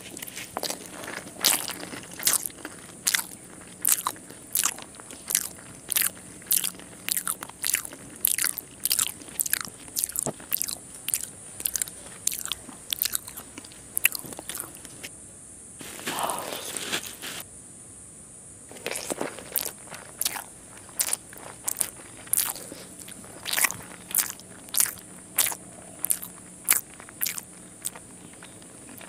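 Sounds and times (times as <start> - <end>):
crisp chewing crunches: 0.0 - 15.1, 15.8 - 17.4, 18.7 - 29.0.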